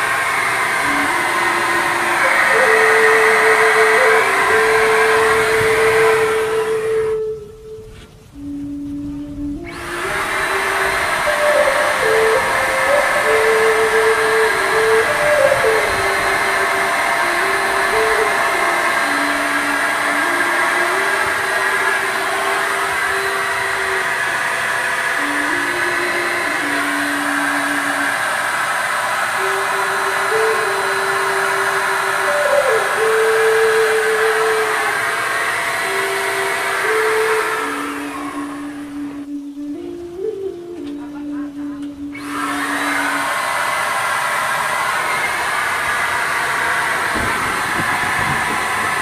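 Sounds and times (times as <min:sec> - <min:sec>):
paint spray gun motor whining: 0:00.0 - 0:07.8, 0:09.4 - 0:41.1, 0:41.8 - 0:49.0
simple tune of held notes: 0:00.7 - 0:28.4, 0:29.4 - 0:43.2.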